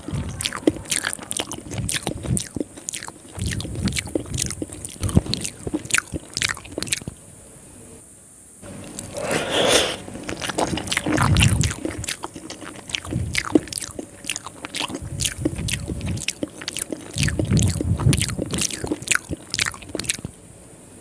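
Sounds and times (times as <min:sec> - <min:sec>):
wet chewing with lip smacks: 0:00.0 - 0:07.2, 0:08.8 - 0:09.3, 0:10.0 - 0:20.4.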